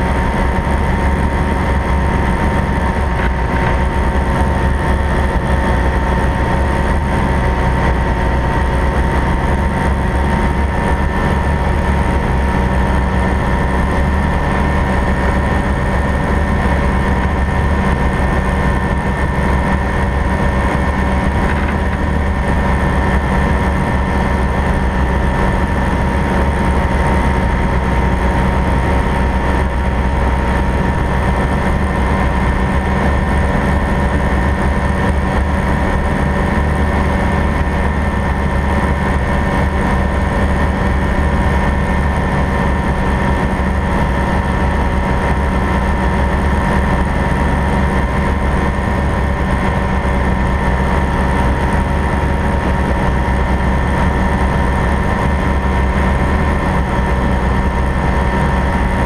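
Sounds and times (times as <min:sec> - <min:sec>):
propeller aircraft engine droning: 0:00.0 - 0:59.0.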